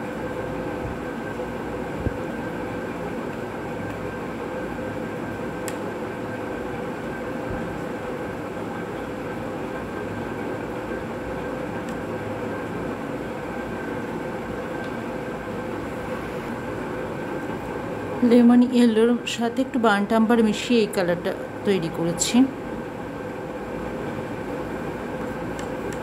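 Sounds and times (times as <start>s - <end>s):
faint constant whine: 0.0s - 26.0s
mechanical hum: 0.0s - 26.0s.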